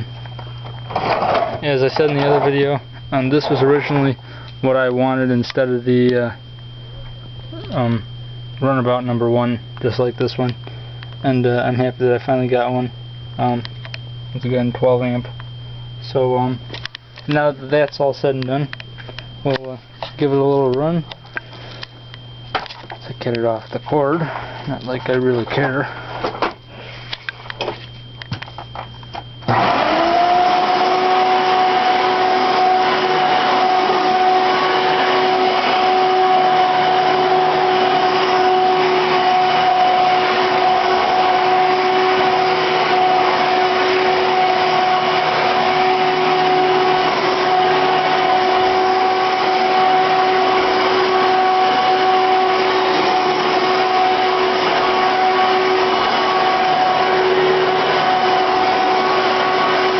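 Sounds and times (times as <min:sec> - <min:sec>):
vacuum cleaner motor whining: 0:00.0 - 0:59.9.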